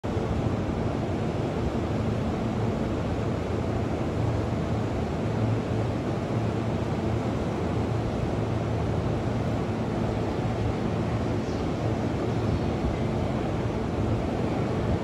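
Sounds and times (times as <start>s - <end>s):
electric train low rumble: 0.0s - 15.0s.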